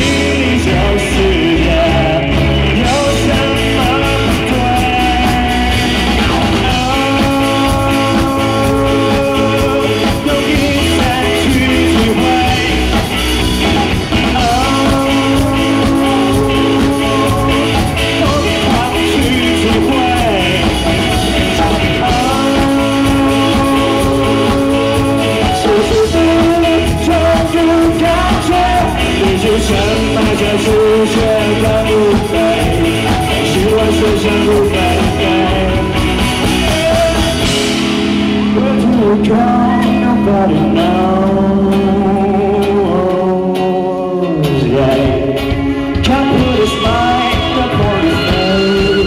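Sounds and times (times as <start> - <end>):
man singing long notes: 0.0 - 13.1, 14.2 - 49.0
bass guitar: 0.0 - 49.0
drums: 0.0 - 49.0.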